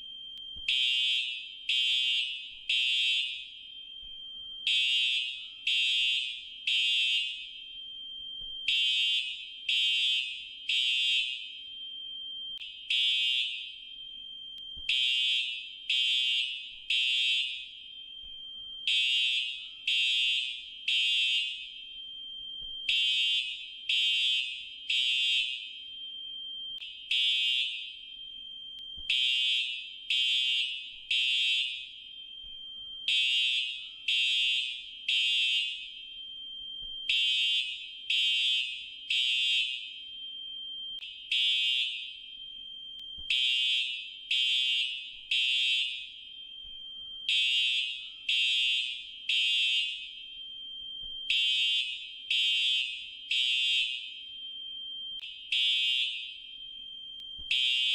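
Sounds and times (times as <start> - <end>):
fire alarm beeping: 0.0 - 57.9.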